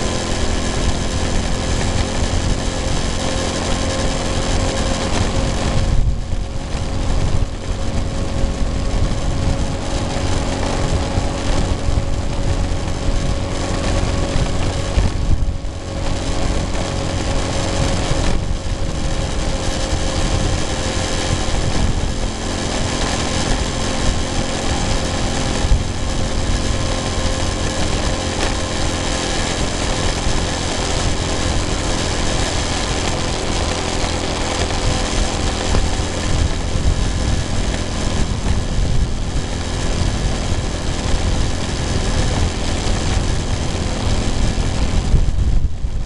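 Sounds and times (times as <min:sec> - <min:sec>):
small motorcycle engine running: 0:00.0 - 0:46.0
wind buffeting microphone: 0:00.0 - 0:46.0.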